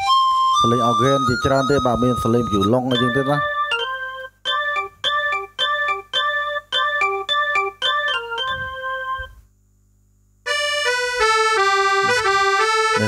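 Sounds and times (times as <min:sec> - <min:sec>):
keyboard piano chords: 0:00.0 - 0:09.4, 0:10.5 - 0:13.0
sustained reedy keyboard tone: 0:00.0 - 0:09.4, 0:10.5 - 0:13.0.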